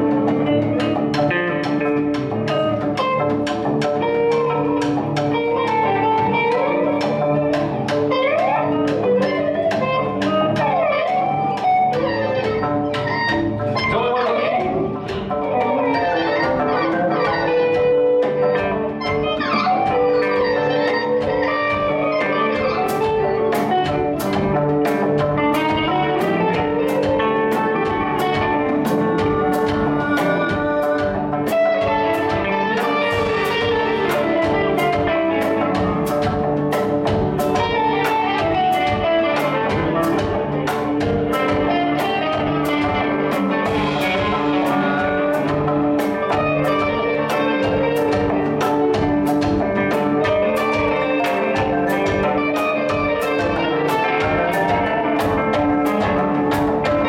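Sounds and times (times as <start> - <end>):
jazz-rock band playing: 0.0 - 57.0.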